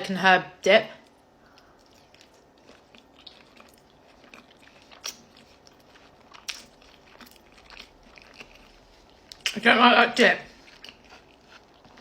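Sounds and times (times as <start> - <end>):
person chewing food: 1.0 - 9.6, 10.5 - 12.0.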